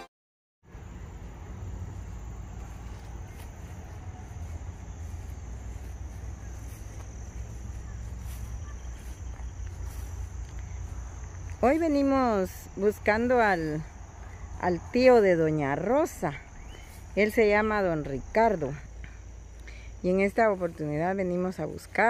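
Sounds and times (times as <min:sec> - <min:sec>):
insects trilling: 0:00.7 - 0:22.0.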